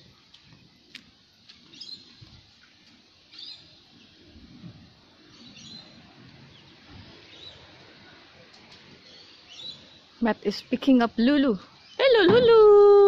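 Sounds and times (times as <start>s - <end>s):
steady hiss: 0.0s - 12.0s
birds chirping: 1.5s - 4.4s, 5.1s - 12.7s.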